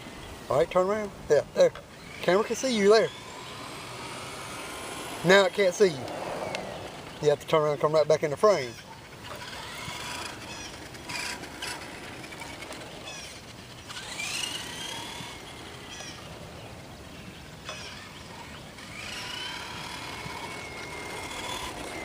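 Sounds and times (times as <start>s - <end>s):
toy truck electric motor whining: 0.0s - 22.0s.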